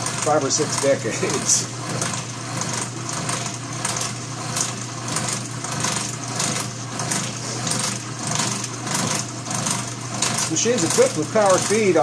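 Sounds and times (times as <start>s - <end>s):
milling machine hum: 0.0s - 12.0s.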